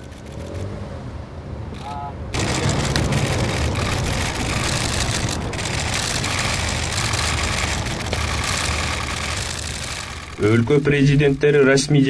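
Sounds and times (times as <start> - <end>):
constant hiss: 1.8 - 12.0
vehicle engine idling: 1.8 - 12.0.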